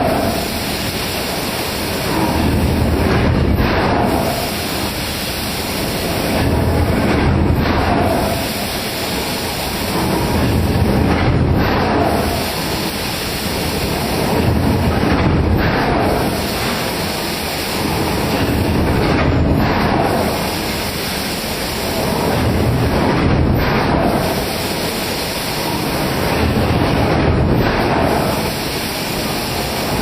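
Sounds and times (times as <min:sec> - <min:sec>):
forging machinery hissing roar: 0:00.0 - 0:30.0.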